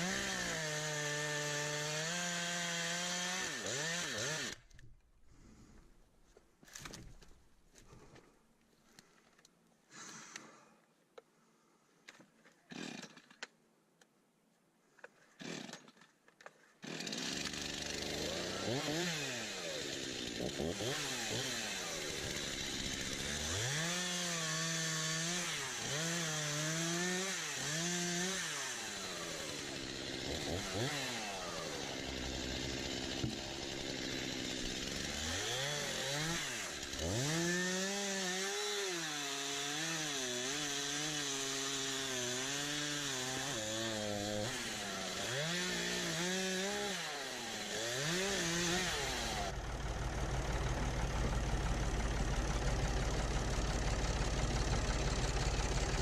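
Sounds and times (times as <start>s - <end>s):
chainsaw revving cutting wood: 0.0s - 4.6s, 12.7s - 13.3s, 15.4s - 16.0s, 16.8s - 56.0s.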